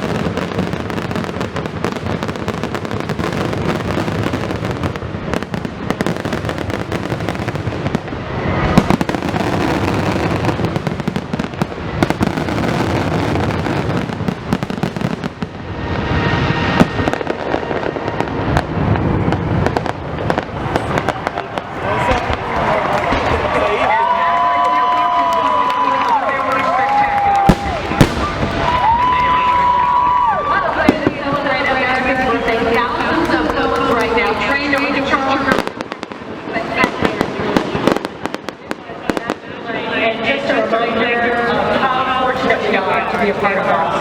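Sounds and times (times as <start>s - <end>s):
loud firework booms: 0.0s - 24.4s, 27.0s - 40.4s
fireworks bangs and crackles: 0.0s - 44.0s.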